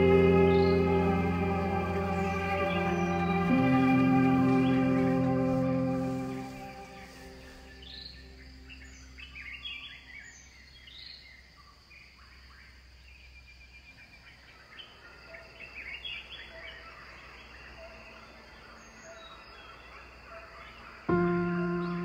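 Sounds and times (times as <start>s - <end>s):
birds chirping: 0.0s - 11.5s, 13.2s - 22.0s.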